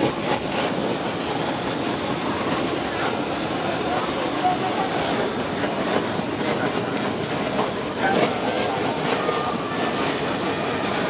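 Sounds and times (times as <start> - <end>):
market clatter: 0.0 - 11.0.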